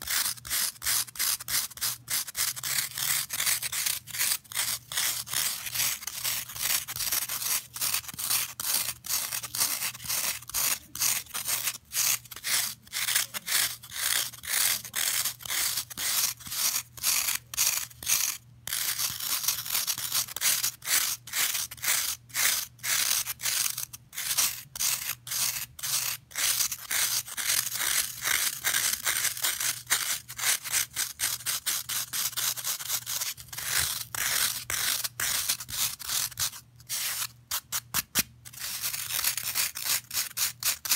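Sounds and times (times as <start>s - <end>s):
fingernails scratching floral foam: 0.0s - 40.9s.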